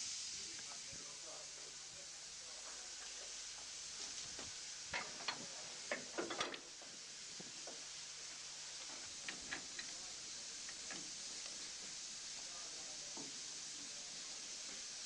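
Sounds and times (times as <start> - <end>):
steady steam hiss: 0.0 - 15.0.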